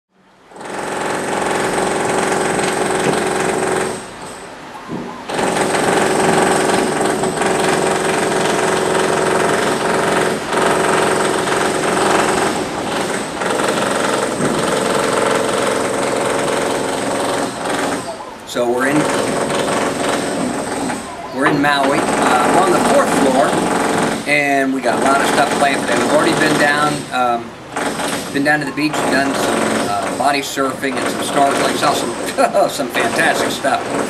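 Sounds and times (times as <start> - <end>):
construction machinery pounding: 0.5 - 34.0.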